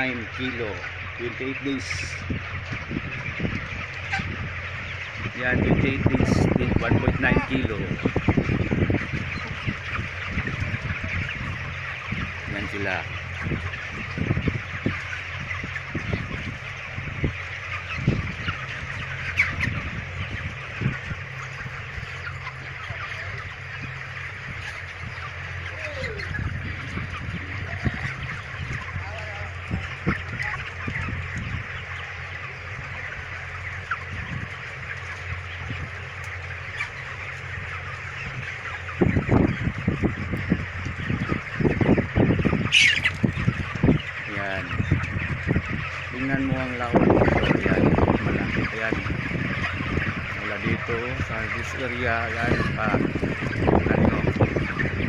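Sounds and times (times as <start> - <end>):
chickens chirping and squawking: 0.0 - 55.0.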